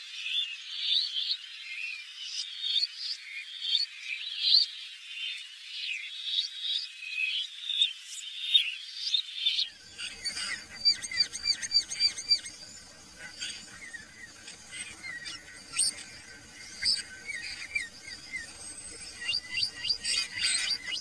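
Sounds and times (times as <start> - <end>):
birds calling and singing: 0.1 - 21.0.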